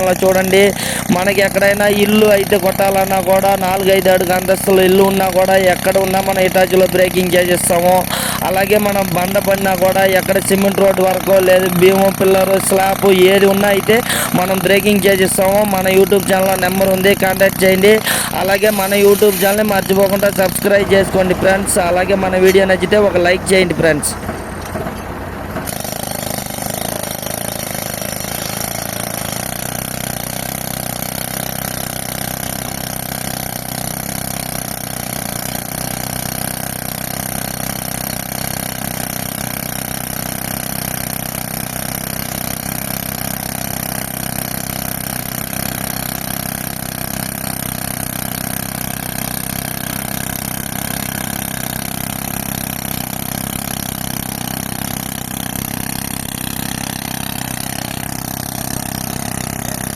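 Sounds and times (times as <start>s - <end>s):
air compressor: 0.0s - 59.9s
tractor engine running: 0.0s - 59.9s.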